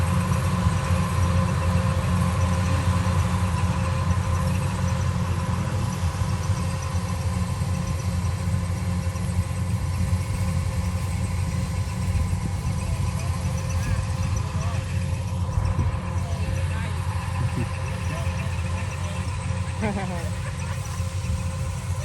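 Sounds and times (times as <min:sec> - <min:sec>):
engine running low rumble: 0:00.0 - 0:22.0.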